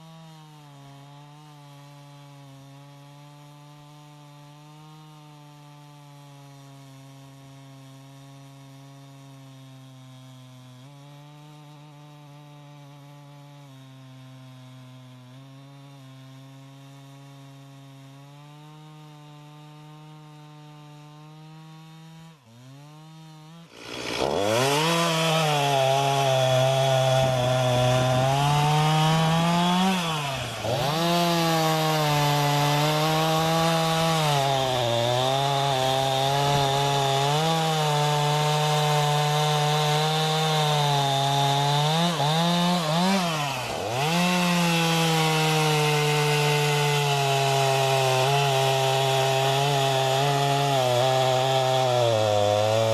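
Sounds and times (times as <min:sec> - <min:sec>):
chainsaw cutting wood: 0:00.0 - 0:52.9
chainsaw engine running: 0:00.0 - 0:52.9.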